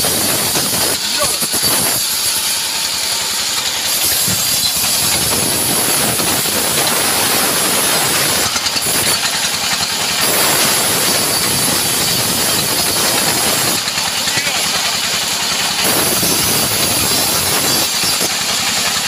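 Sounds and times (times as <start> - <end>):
band saw cutting wood: 0.0 - 19.0
high mechanical whine: 0.0 - 19.0.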